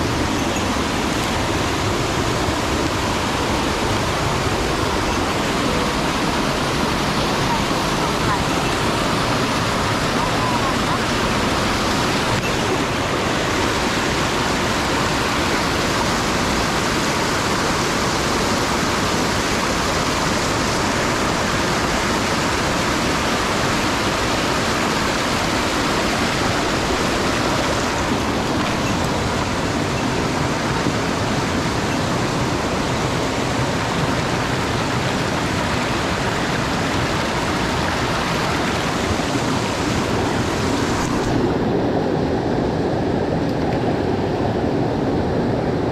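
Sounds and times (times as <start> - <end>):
rushing mountain stream: 0.0 - 45.9.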